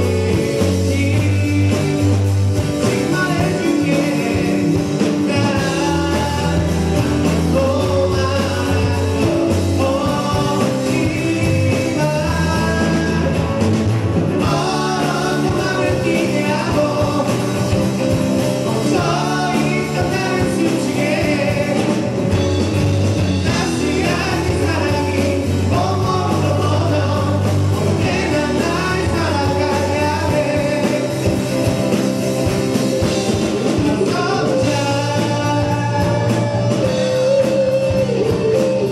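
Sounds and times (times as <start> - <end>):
acoustic and electric guitars: 0.0 - 38.9
backing vocals: 0.0 - 38.9
bass guitar: 0.0 - 38.9
drums: 0.0 - 38.9
keyboard: 0.0 - 38.9
lead vocal singing: 0.0 - 38.9.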